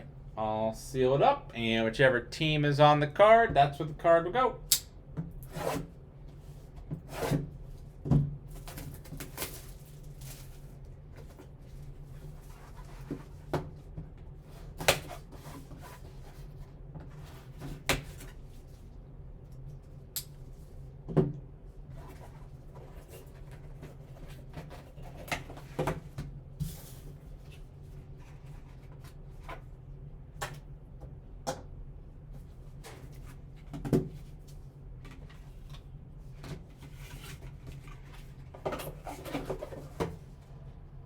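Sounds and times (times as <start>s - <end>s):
steady low hum: 0.0s - 8.8s, 9.5s - 41.0s.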